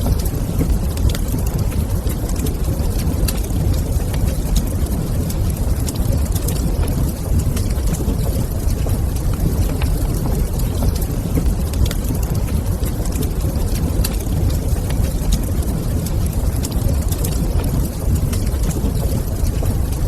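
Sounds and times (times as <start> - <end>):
fire burning in a fireplace: 0.0 - 20.0.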